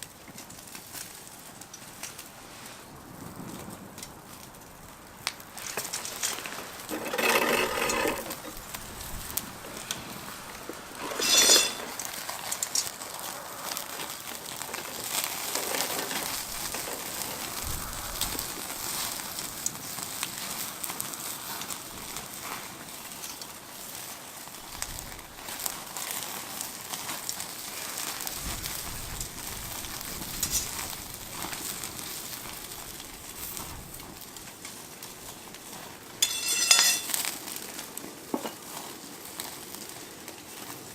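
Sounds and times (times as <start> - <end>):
meat sizzling on a grill: 0.0 - 40.9.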